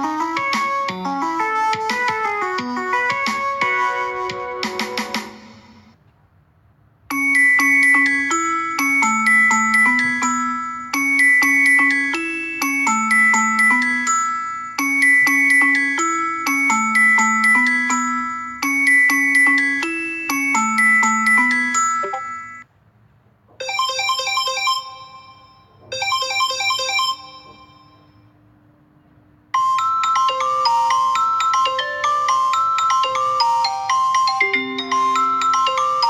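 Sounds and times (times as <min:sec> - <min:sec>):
bell-like ringtone melody: 0:00.0 - 0:05.9, 0:07.1 - 0:22.7, 0:23.6 - 0:28.4, 0:29.6 - 0:36.0.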